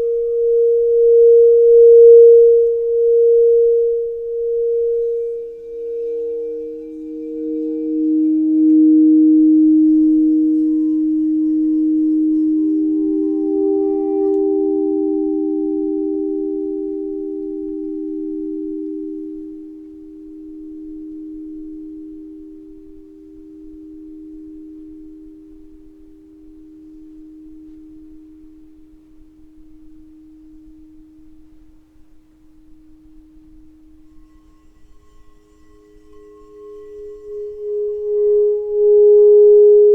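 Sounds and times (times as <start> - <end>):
singing bowl ringing: 0.0 - 31.8, 32.5 - 39.9.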